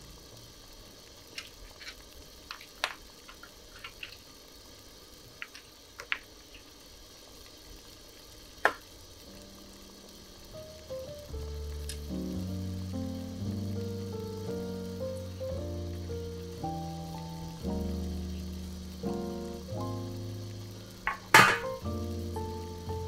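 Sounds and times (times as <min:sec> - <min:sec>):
broth heating hiss with pops: 0:00.0 - 0:23.0.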